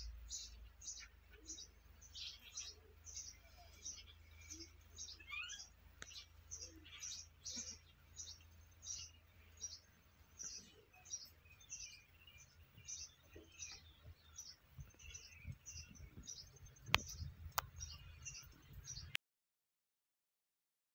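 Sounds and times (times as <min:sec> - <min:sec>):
bird chirping: 0:00.0 - 0:19.2.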